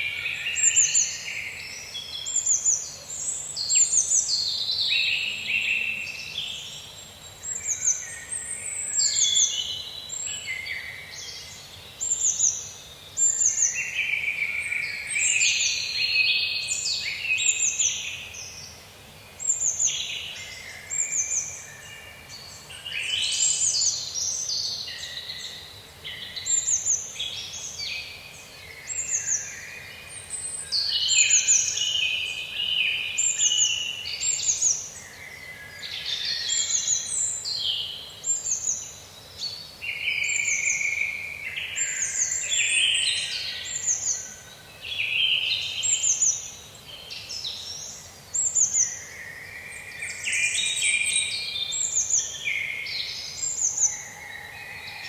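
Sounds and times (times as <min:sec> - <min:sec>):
faint background hiss: 0:00.0 - 0:55.0
songbirds singing: 0:00.0 - 0:55.0.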